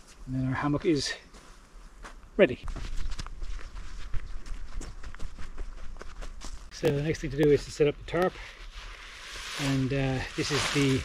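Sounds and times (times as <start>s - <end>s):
footsteps on gritty sand: 1.2s - 11.0s.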